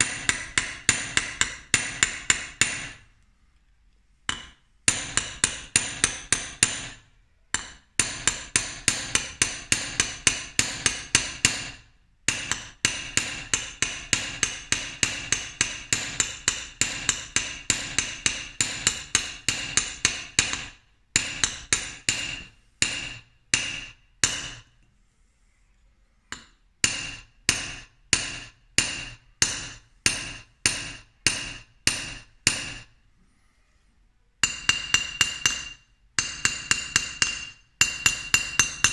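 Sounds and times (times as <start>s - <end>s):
hammer tapping blade on anvil: 0.0s - 3.0s, 4.3s - 24.8s, 26.3s - 32.9s, 34.4s - 38.9s.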